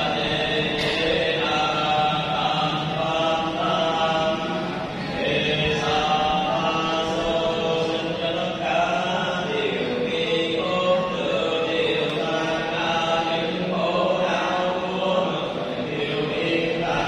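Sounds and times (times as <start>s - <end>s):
many voices chanting together: 0.0s - 17.0s.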